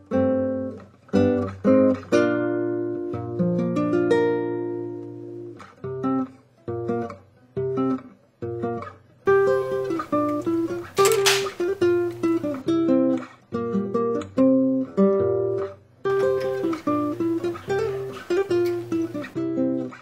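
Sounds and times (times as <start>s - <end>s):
plucked acoustic guitar: 0.0s - 20.0s.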